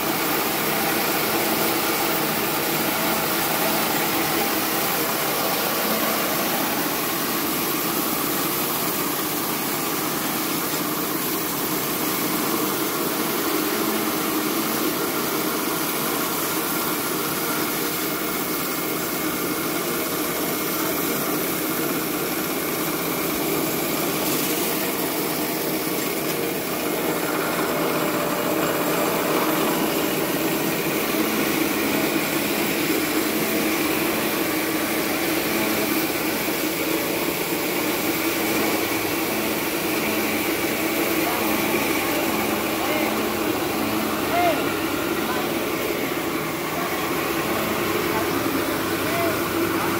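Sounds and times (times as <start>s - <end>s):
rice milling machine whirring: 0.0s - 49.9s.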